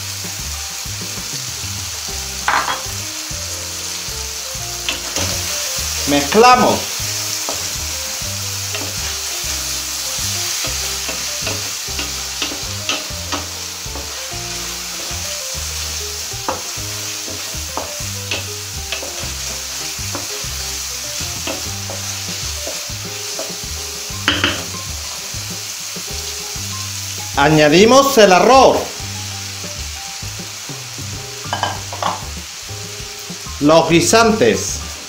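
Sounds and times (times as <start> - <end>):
food sizzling in a pan: 0.0 - 35.0.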